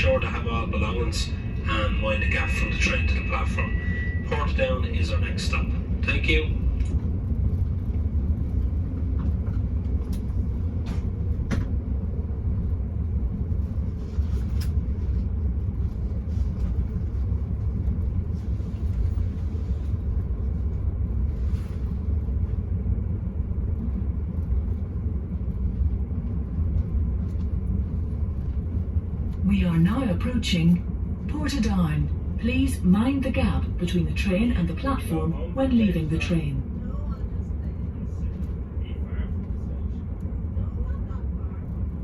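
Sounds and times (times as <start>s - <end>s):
train rumbling inside carriage: 0.0s - 42.0s.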